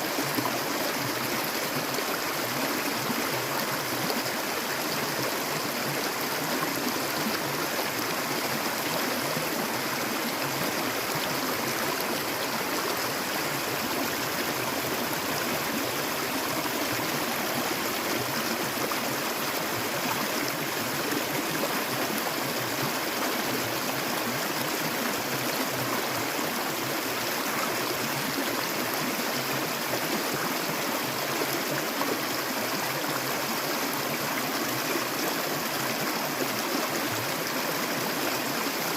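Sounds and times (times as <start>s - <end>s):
water flowing steadily: 0.0s - 38.9s.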